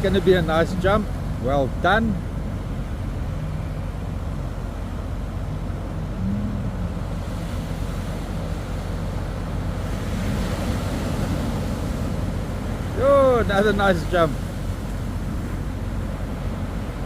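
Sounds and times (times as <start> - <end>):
outboard motors running hard: 0.0 - 17.0
waves breaking: 0.0 - 17.0.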